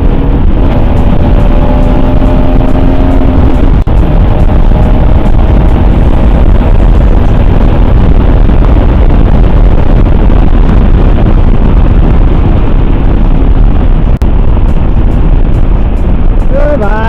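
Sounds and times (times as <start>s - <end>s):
motorcycle engine: 0.0s - 16.8s
wind rushing over microphone: 0.0s - 17.0s.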